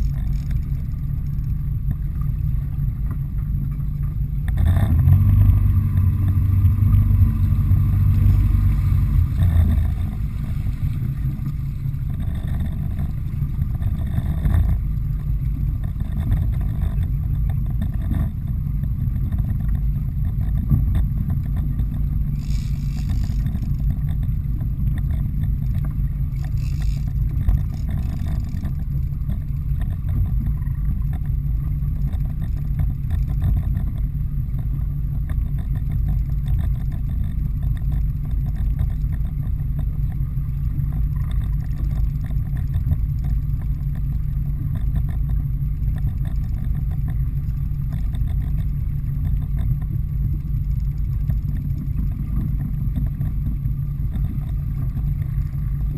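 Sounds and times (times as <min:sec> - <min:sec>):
boat engine rumbling: 0:00.0 - 0:55.9.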